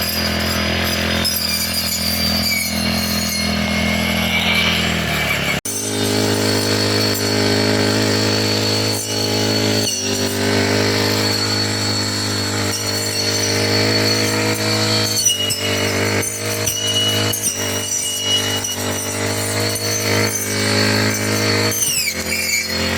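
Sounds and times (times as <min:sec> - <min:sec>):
brush cutter engine running: 0:00.0 - 0:22.9.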